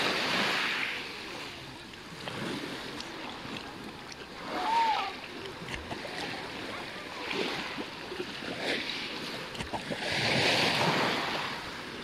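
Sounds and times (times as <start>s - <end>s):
sea water lapping: 0.0s - 12.0s
water surge: 0.0s - 12.0s.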